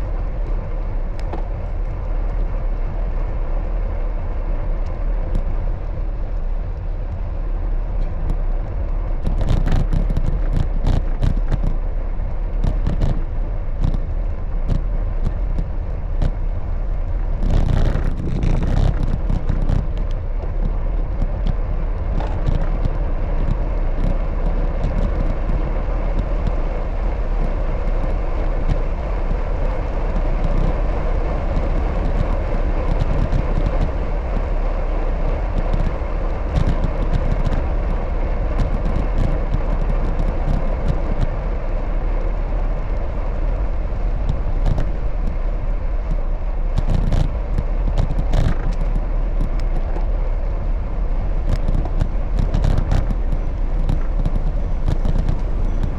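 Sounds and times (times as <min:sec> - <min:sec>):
bicycle clicks and rattles: 0:00.0 - 0:55.9
bicycle road noise rumble: 0:00.0 - 0:55.9.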